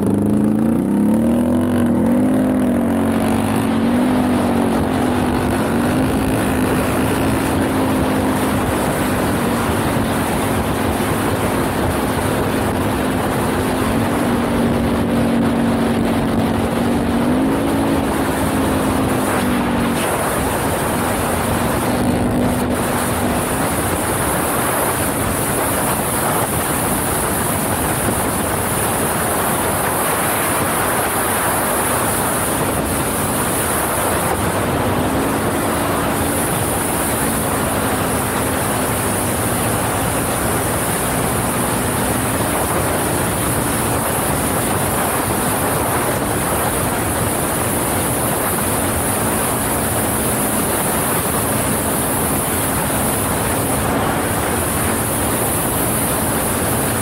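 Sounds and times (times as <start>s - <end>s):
atv engine running: 0.0s - 57.0s
wind rushing over microphone: 0.0s - 57.0s.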